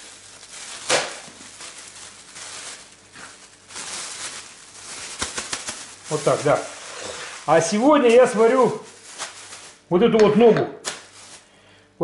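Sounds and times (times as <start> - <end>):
plastic bag rustling and crinkling: 0.0 - 11.6.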